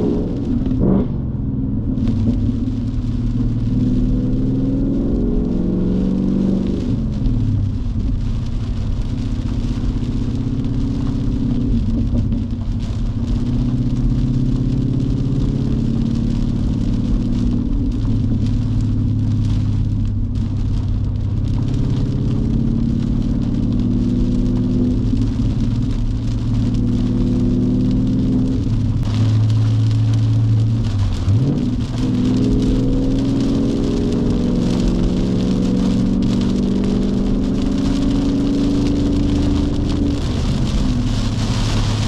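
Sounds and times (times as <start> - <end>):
car engine droning at cruise: 0.0 - 42.0
rain hissing on car: 0.0 - 42.0.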